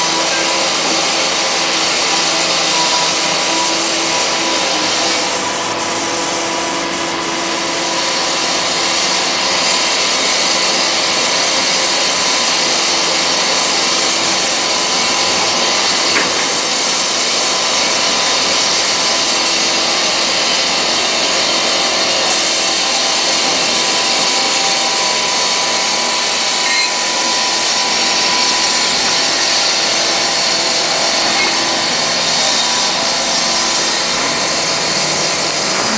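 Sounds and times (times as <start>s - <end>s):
machine hissing and whining: 0.0s - 35.9s.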